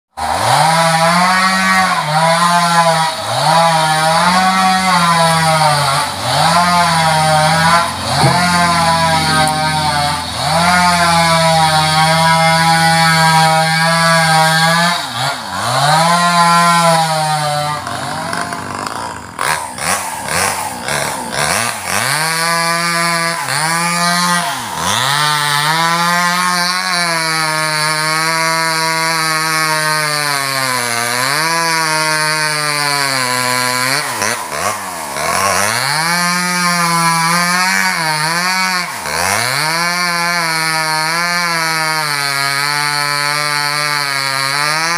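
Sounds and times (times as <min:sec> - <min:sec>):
chainsaw cutting wood: 0:00.2 - 0:44.9.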